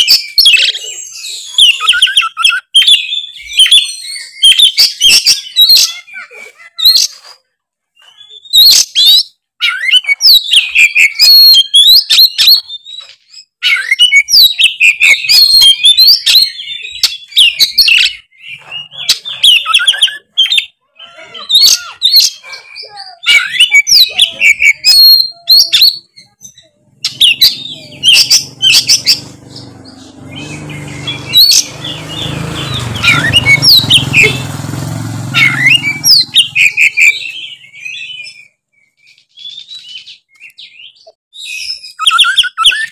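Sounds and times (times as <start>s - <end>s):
magpie-robin singing: 0.0s - 42.9s.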